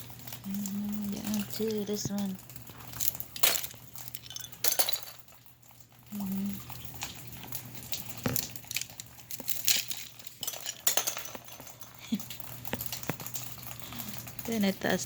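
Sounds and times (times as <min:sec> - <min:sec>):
ice clinking and crackling: 0:00.0 - 0:15.0.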